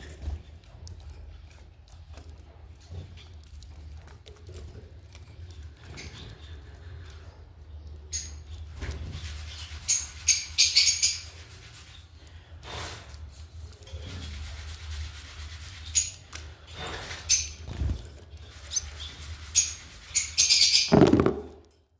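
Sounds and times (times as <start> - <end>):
small birds chirping: 0.0 - 21.1.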